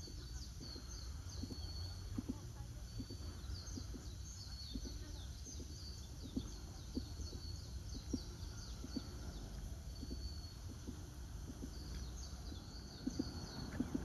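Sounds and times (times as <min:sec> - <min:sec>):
small birds chirping and whistling: 0:00.0 - 0:14.0
steady low rumble: 0:00.0 - 0:14.0.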